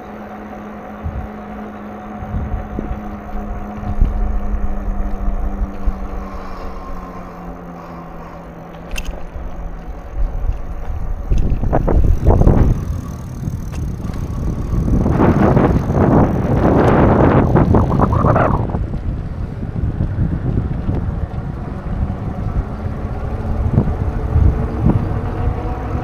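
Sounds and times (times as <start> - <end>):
engine hum: 0.0 - 26.0.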